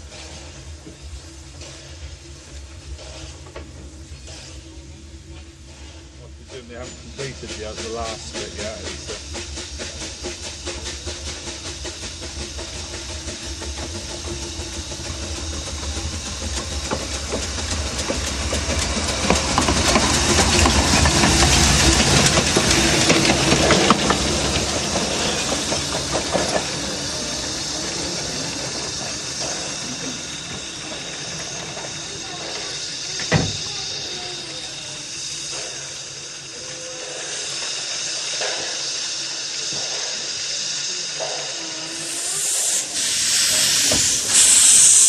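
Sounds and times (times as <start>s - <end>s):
steam hissing: 0.0s - 45.0s
steam train rumble: 0.0s - 45.0s
wheels clicking on track: 6.2s - 45.0s.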